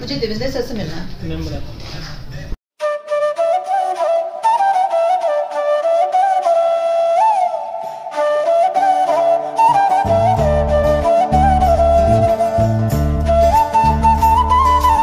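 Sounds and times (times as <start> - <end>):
flute melody: 2.8 - 15.0.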